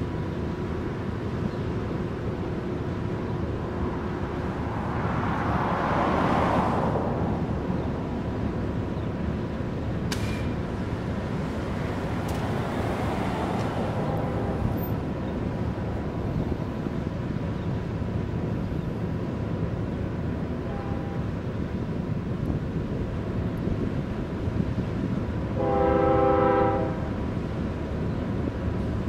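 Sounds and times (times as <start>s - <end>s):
diesel locomotives rumbling: 0.0s - 29.0s
wind buffeting microphone: 0.2s - 25.6s.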